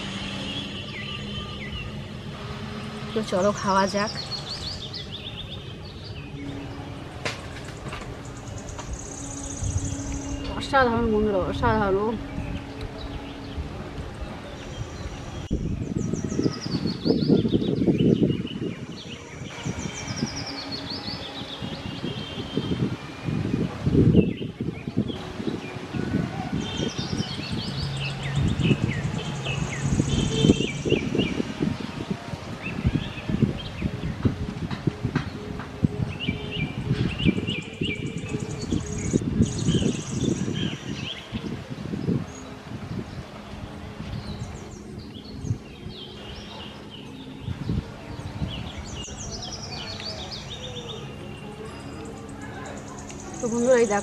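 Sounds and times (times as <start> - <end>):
small birds chirping: 0.0 - 34.4, 35.2 - 54.0.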